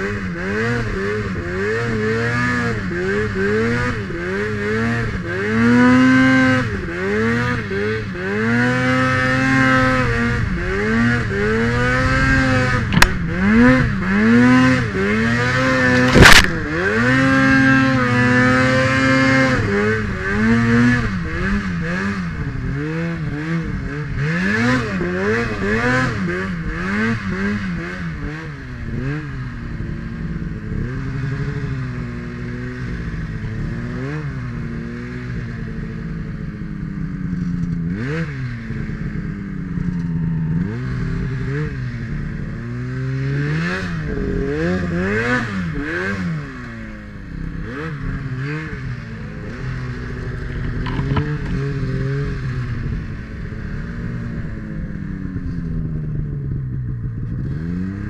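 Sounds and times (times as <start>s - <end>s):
snowmobile engine revving: 0.0s - 36.5s, 37.1s - 58.0s.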